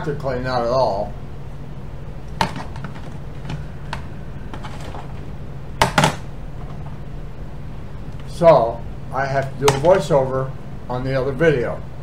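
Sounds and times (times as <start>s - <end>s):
fan and air conditioner hum: 0.0s - 12.0s.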